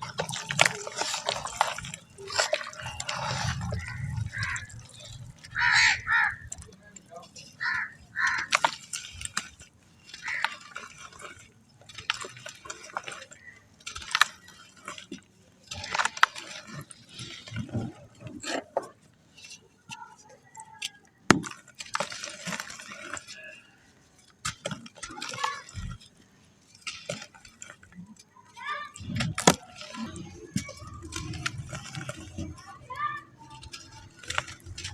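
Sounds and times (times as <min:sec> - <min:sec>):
wet sand crumbling and crunching: 0:00.0 - 0:34.9.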